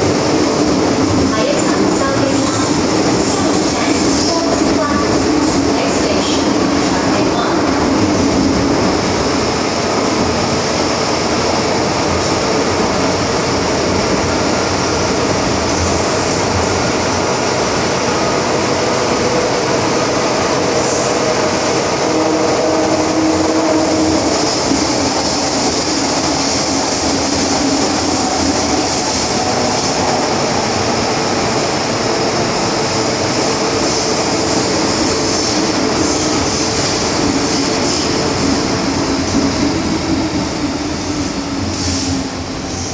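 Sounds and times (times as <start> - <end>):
train wheels rumbling in tunnel: 0.0 - 42.9.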